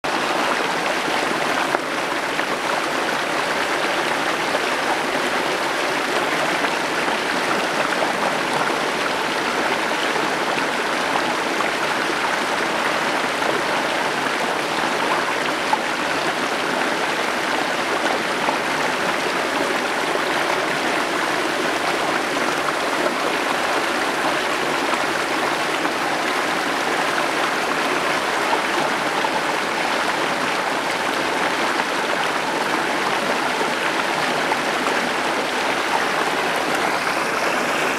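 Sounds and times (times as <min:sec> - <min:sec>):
stream rushing over stones: 0:00.1 - 0:37.9.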